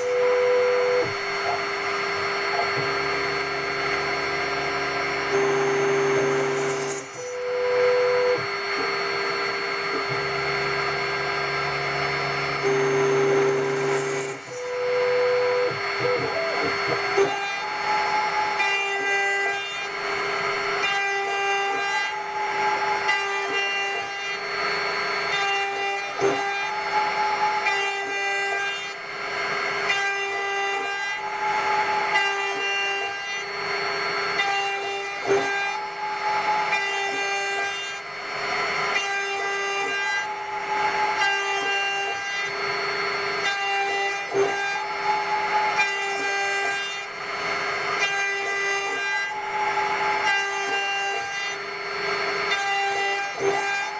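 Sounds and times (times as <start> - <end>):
cutter milling metal: 0.0 - 53.9
milling spindle whine: 0.0 - 53.9.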